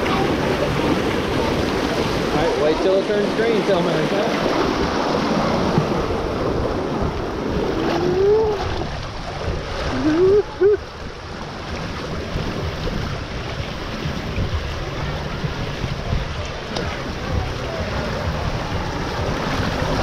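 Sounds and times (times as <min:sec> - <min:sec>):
water rushing and splashing: 0:00.0 - 0:20.0.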